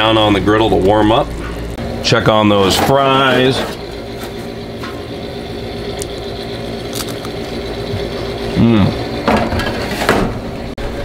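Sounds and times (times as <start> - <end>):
air fryer motor hum: 0.0 - 11.0.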